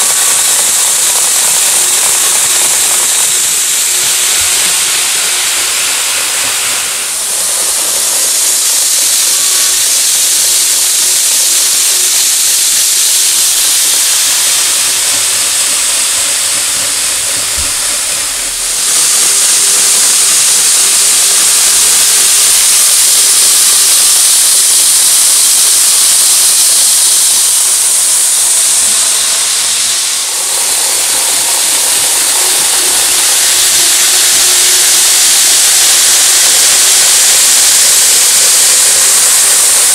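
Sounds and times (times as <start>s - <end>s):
model train wheels hissing on rail: 0.0s - 39.9s.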